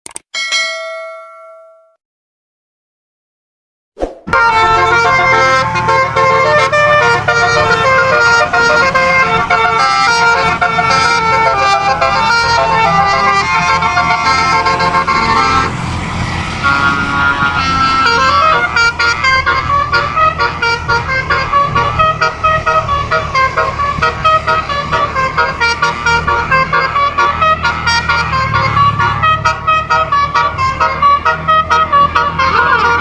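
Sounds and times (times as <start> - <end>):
air horn set playing a melody: 4.3 - 15.7, 16.6 - 33.0.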